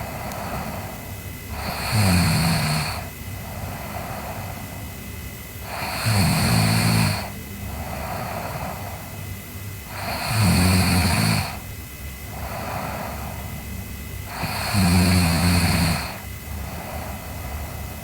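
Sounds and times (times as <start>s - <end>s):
girl snoring: 0.0s - 4.8s, 5.6s - 9.2s, 9.8s - 11.7s, 12.3s - 13.6s, 14.2s - 18.0s
soft breathing: 0.0s - 5.9s, 7.2s - 10.2s, 11.4s - 14.8s, 15.7s - 18.0s.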